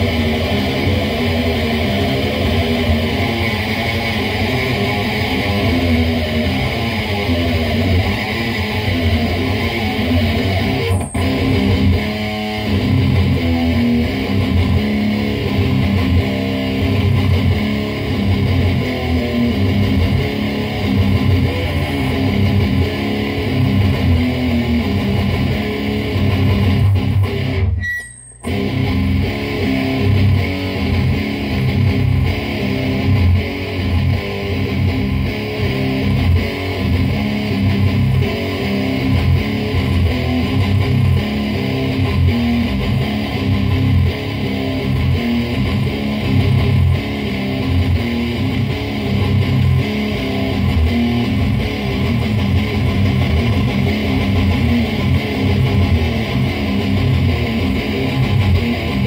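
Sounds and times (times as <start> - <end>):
heavily distorted electric guitar riffing: 0.0 - 59.0.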